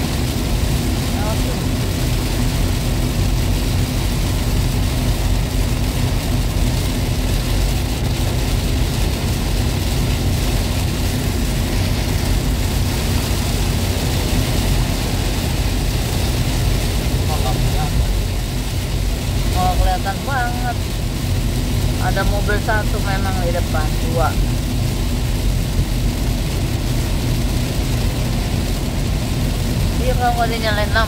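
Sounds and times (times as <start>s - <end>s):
engine and tyres droning: 0.0s - 31.0s
heavy rain on car roof: 0.0s - 31.0s.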